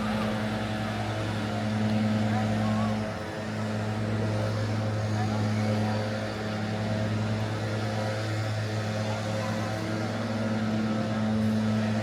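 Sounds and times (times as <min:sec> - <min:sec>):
city street noise: 0:00.0 - 0:12.0.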